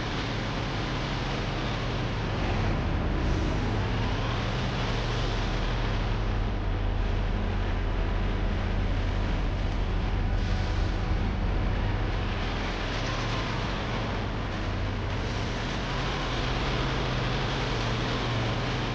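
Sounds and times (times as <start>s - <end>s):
heavy engine running: 0.0s - 18.9s.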